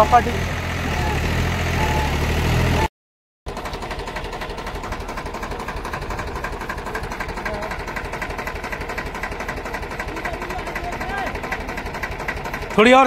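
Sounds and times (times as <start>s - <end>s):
tractor diesel engine chugging: 0.0s - 2.9s, 3.5s - 13.0s.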